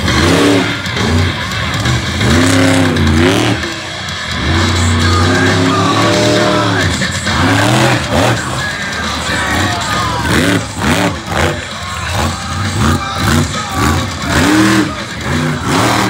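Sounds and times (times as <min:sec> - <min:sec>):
monster truck engine revving: 0:00.0 - 0:16.0
music over pa: 0:00.0 - 0:16.0.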